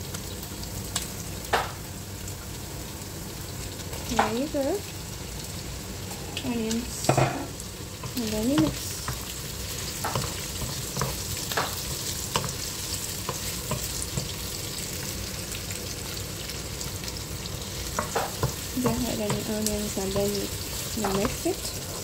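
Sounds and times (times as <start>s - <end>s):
meat and onions sizzling in oil: 0.0s - 22.0s.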